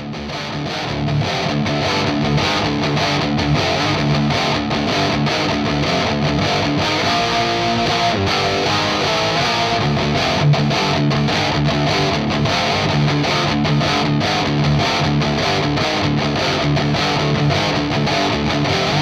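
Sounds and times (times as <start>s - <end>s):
rock music with distorted guitar: 0.0s - 19.0s.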